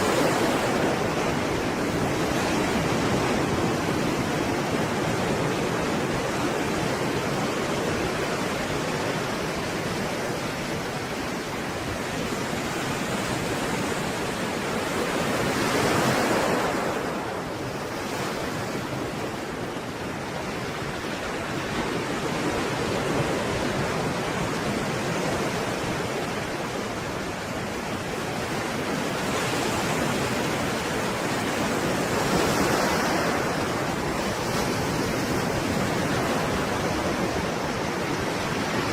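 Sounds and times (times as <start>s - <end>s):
stormy sea waves: 0.0s - 38.9s.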